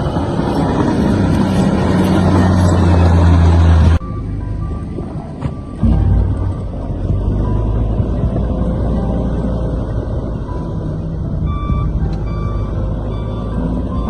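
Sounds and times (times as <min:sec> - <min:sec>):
heavy machine engine running: 0:00.0 - 0:14.0.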